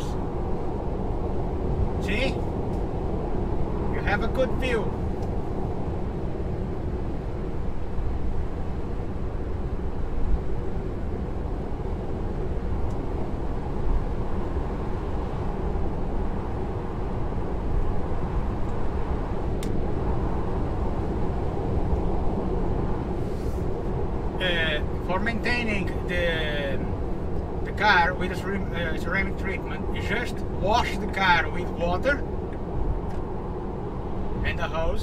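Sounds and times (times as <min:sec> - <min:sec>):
road and wind noise in car: 0:00.0 - 0:35.0.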